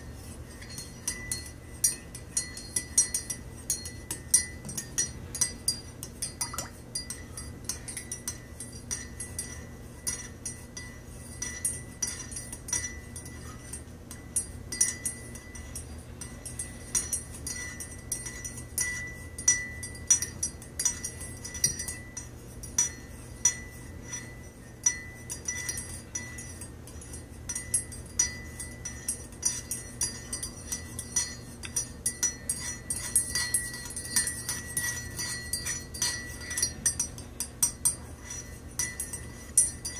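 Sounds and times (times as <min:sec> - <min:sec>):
teaspoon clinking in mug: 0:00.2 - 0:39.9.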